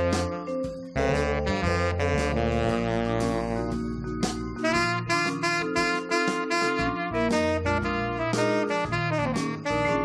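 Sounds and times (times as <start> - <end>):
saxophone playing slow blues: 0.0 - 4.0, 4.6 - 10.0.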